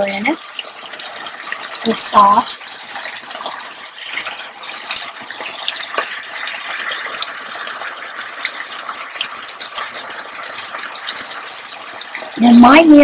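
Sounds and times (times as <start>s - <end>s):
stir fry sizzling in skillet: 0.0s - 13.0s.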